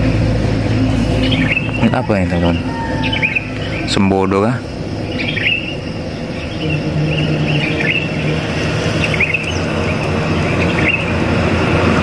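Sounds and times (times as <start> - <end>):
birds chirping: 0.0 - 12.0
bus engine and tyre noise: 0.0 - 12.0.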